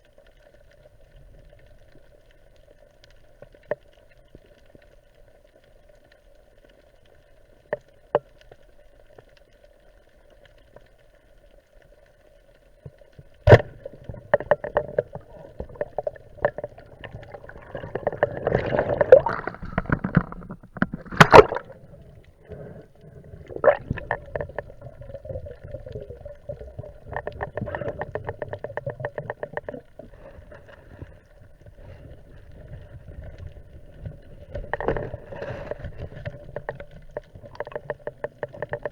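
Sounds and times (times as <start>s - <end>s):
crackling bubbling: 0.0s - 38.9s
underwater hum: 0.0s - 38.9s.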